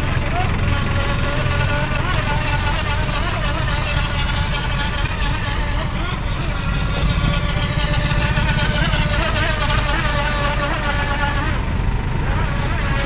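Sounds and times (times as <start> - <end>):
electric motor whining: 0.0 - 13.0
steady low rumble: 0.0 - 13.0.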